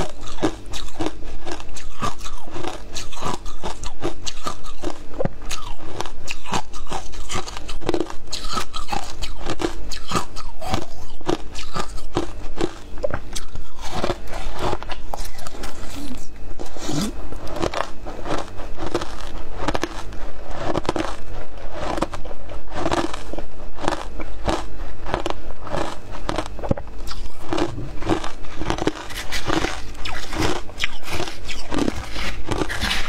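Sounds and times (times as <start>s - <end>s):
crunching and chewing ice: 0.0s - 33.0s.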